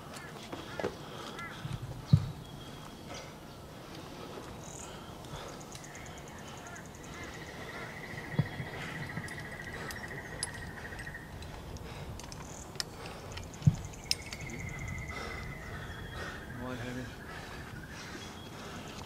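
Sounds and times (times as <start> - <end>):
pulsed trilling calls: 2.1 - 19.0.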